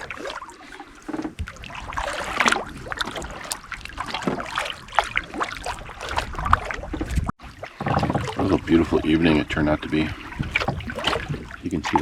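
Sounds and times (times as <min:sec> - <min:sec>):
paddle dipping and dripping: 0:00.0 - 0:12.0
water splashing around a canoe: 0:00.0 - 0:12.0.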